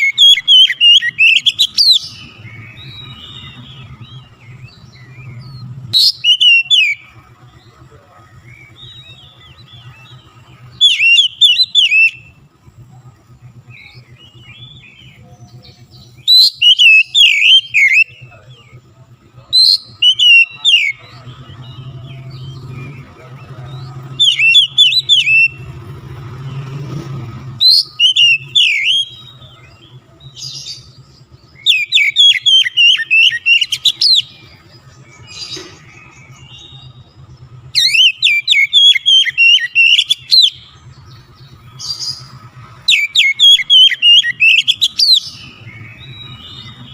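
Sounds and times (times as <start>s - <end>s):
bird singing whistled phrases: 0.0s - 7.6s, 8.3s - 12.4s, 13.7s - 18.8s, 19.4s - 25.8s, 27.6s - 46.9s.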